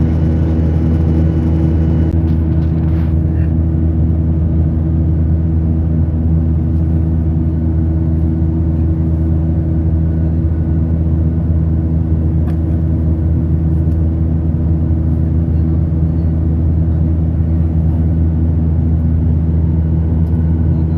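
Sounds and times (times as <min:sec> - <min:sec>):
aeroplane cabin engine drone: 0:00.0 - 0:20.9.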